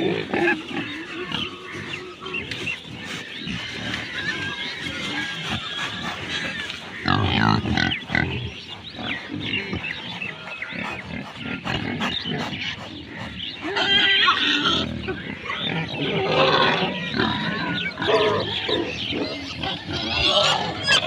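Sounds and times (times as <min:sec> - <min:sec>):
pigs grunting: 0:00.0 - 0:21.0
pigs squealing: 0:00.0 - 0:21.0.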